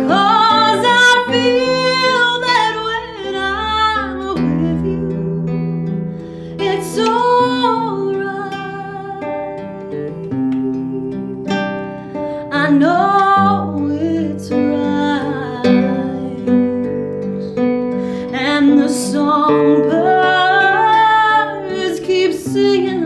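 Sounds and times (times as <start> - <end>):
acoustic guitar picking: 0.0 - 23.0.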